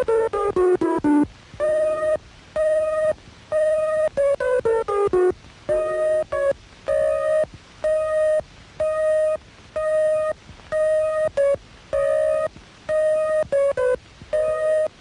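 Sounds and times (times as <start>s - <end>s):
electronic bleeps: 0.0s - 15.0s
short electronic blips: 0.0s - 15.0s.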